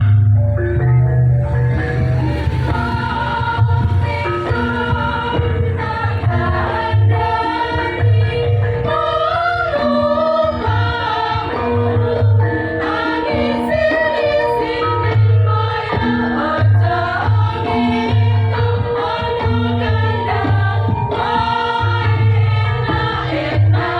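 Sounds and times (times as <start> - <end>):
instrumental accompaniment with bass beat: 0.0 - 23.9
women's choir singing: 1.7 - 23.9.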